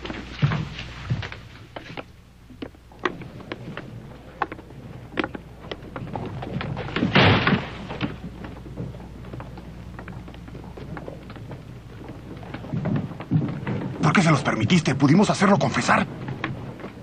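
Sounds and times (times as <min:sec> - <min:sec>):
boots on wooden boards: 0:00.0 - 0:14.1.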